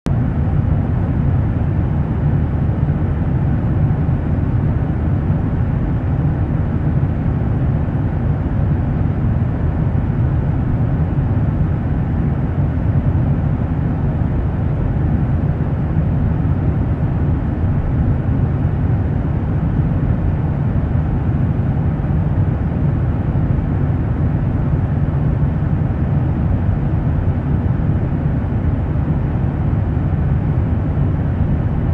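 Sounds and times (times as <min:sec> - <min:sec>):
airliner cabin rumble: 0:00.1 - 0:31.9.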